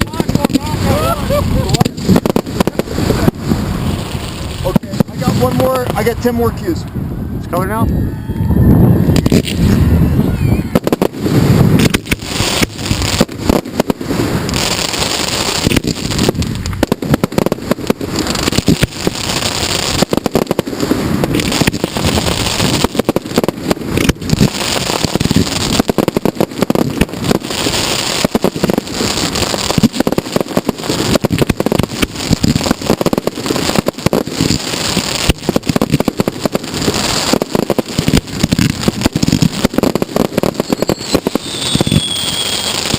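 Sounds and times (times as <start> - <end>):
fireworks bangs: 0.0 - 6.9, 8.6 - 42.9
fireworks crackling: 0.0 - 7.8, 8.9 - 42.9.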